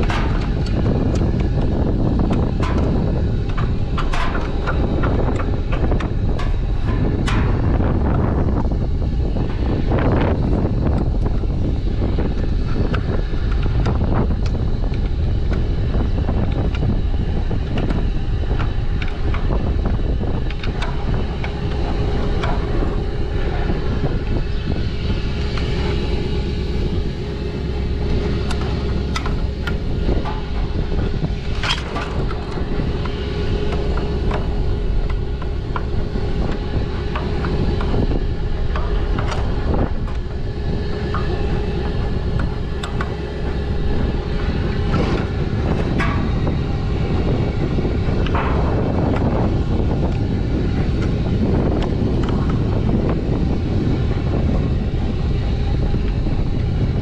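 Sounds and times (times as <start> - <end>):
engine running with low hum: 0.0 - 57.0.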